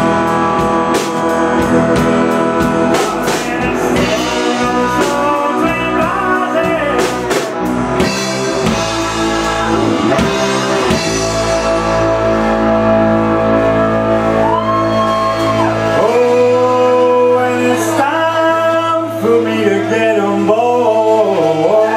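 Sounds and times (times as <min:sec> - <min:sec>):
blues-rock band playing: 0:00.0 - 0:21.9.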